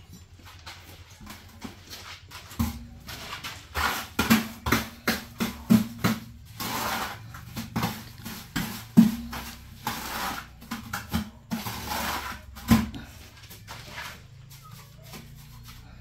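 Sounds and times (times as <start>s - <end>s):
mortar scraping in bucket: 0.6s - 16.0s.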